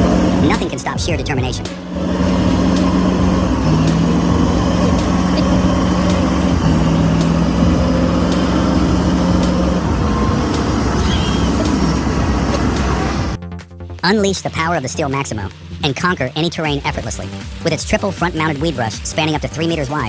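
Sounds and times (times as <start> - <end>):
heavy engine running hard: 0.0 - 13.4, 14.0 - 20.0.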